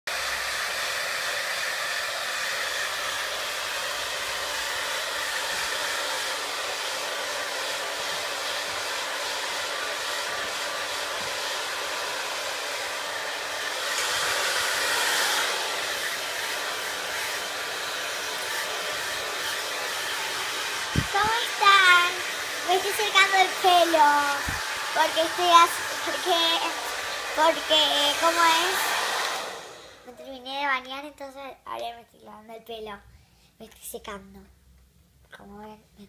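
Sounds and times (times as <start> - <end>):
hair dryer blowing: 0.1 - 30.1.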